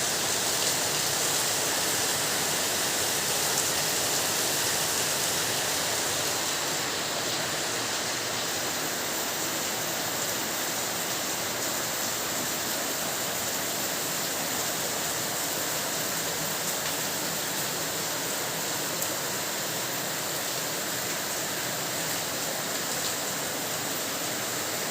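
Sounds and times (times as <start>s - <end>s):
heavy rain: 0.0s - 24.9s.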